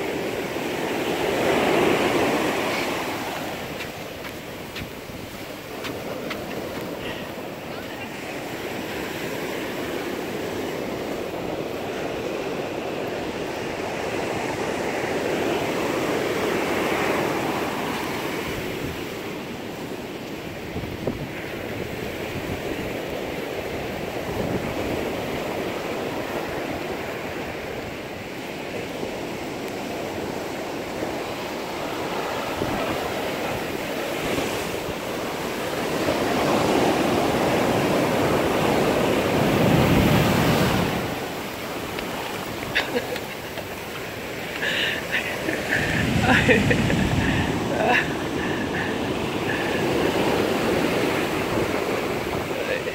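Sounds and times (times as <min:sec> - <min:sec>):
ocean surf breaking on beach: 0:00.0 - 0:52.9.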